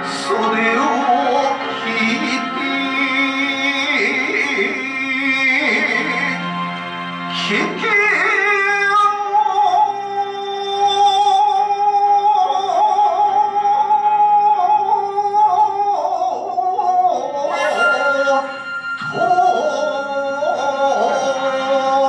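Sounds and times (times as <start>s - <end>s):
man chanting poetry: 0.0s - 6.5s, 7.4s - 22.0s.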